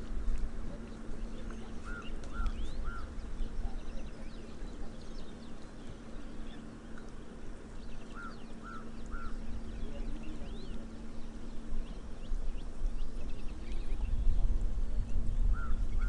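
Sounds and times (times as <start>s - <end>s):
steady low rumble: 0.0s - 16.0s
bird calling arched notes: 1.2s - 7.1s, 7.7s - 14.2s, 15.5s - 16.0s.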